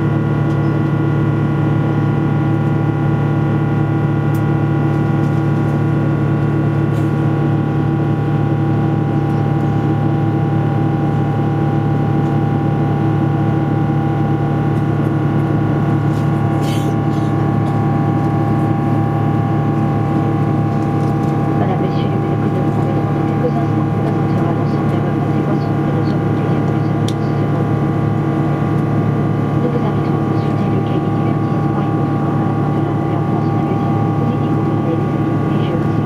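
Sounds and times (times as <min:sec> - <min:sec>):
jet engine cabin drone: 0:00.0 - 0:36.0
steady whining tones: 0:00.0 - 0:36.0.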